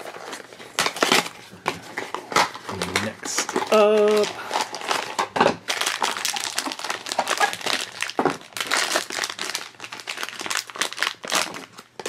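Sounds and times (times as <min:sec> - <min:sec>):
foil bag crinkling: 0:00.0 - 0:12.0.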